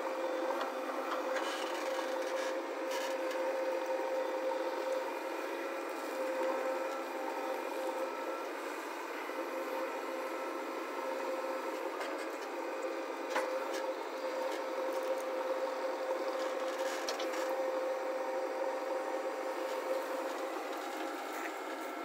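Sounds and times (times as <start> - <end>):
backhoe engine and hydraulics whining: 0.0 - 22.0.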